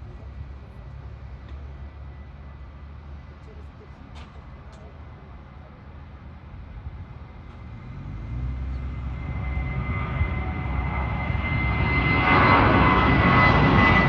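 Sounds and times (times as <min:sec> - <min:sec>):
airplane engines rumbling: 0:00.0 - 0:14.0
high engine whine: 0:00.0 - 0:14.0.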